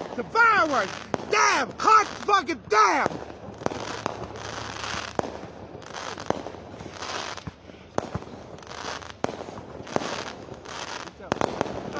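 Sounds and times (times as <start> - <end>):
fireworks bangs: 0.0 - 11.9
fireworks hissing crackle: 0.0 - 11.9.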